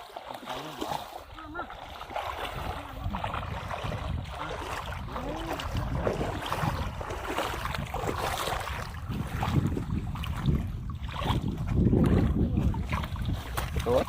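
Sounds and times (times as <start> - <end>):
water sloshing and splashing: 0.0 - 14.0
wind buffeting microphone: 1.3 - 14.0.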